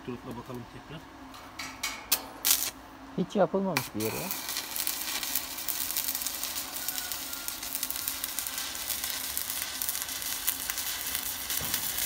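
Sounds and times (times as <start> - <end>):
welding arc crackling: 0.0 - 1.0, 1.6 - 12.0.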